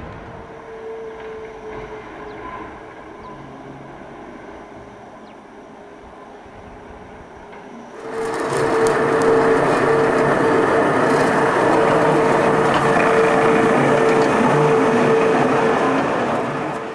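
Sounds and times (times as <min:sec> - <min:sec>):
loud rumbling noise: 0:00.0 - 0:05.0, 0:08.0 - 0:16.9
railcar drive whine: 0:00.0 - 0:16.9.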